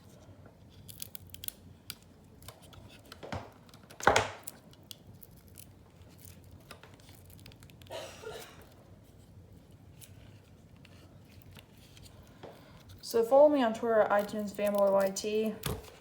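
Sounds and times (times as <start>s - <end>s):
plastic packaging crinkling: 0.6s - 16.0s.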